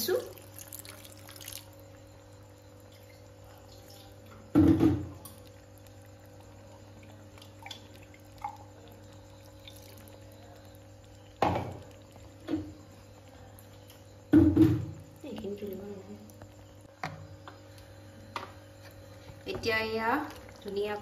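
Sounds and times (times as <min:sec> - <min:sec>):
faint steady hum: 0:00.0 - 0:21.0
stew bubbling in a pan: 0:00.0 - 0:21.0.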